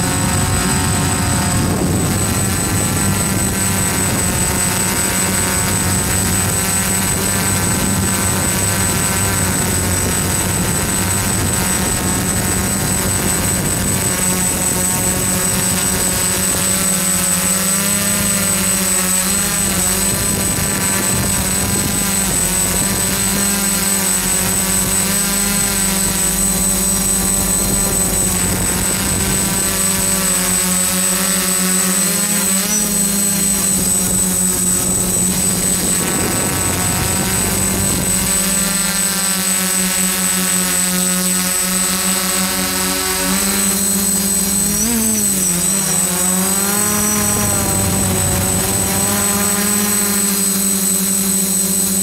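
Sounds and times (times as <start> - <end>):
drone motors buzzing: 0.0 - 52.0
steady high whine: 0.0 - 52.0.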